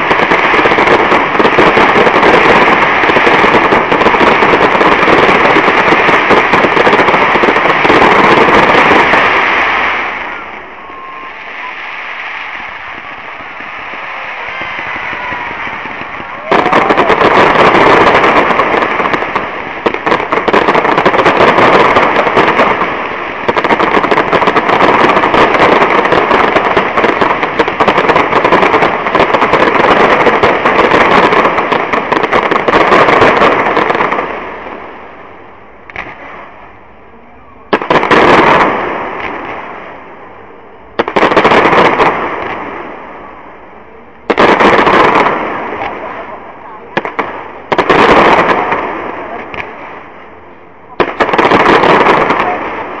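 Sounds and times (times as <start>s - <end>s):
fireworks bangs and crackle: 0.0s - 53.0s.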